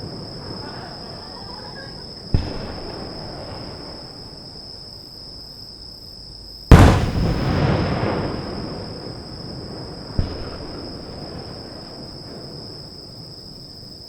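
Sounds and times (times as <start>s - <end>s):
fireworks bang: 0.0s - 4.8s, 6.7s - 13.4s
fireworks boom with rumbling tail: 0.0s - 5.5s, 6.6s - 14.0s
insects chirring: 0.0s - 14.0s.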